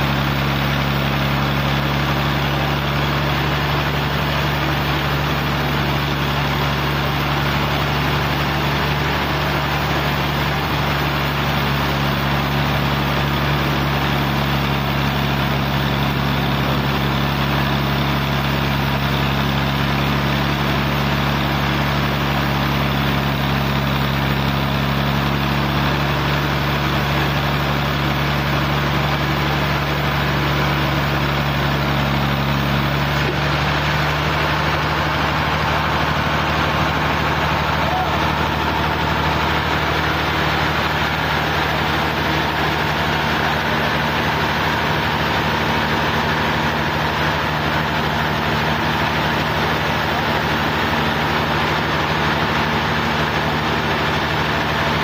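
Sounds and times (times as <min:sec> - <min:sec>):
sawmill engine humming: 0:00.0 - 0:55.0.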